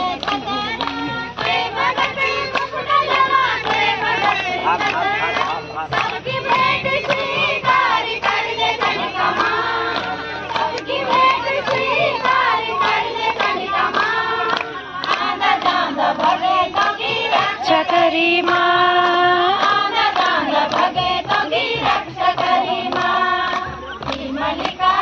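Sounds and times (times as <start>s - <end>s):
rhythmic hand claps: 0.0s - 25.0s
women singing together: 0.0s - 25.0s.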